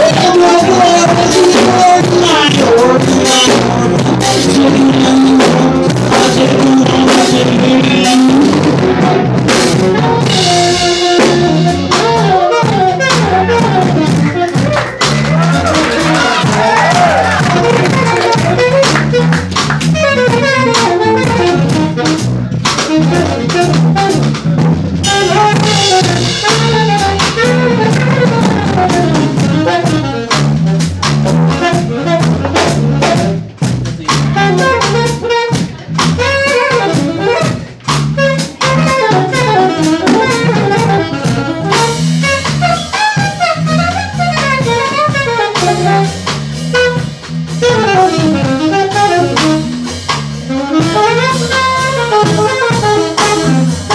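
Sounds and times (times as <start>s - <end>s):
drum kit: 0.0s - 53.9s
repeating bass line: 0.0s - 53.9s
saxophone lead: 0.0s - 53.9s.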